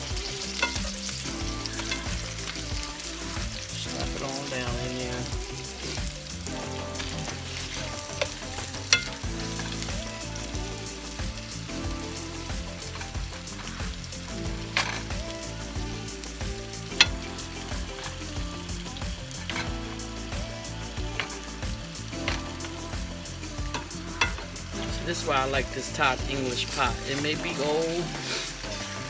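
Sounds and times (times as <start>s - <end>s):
meat and onions sizzling: 0.0s - 29.0s
utensil clacking against pan: 0.0s - 29.0s.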